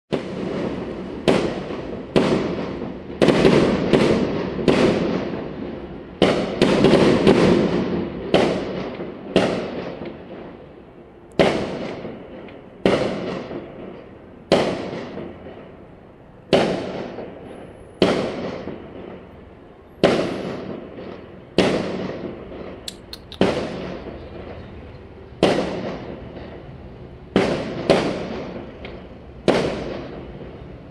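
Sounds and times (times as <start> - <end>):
fireworks banging with echoing rumble: 0.1 - 30.9.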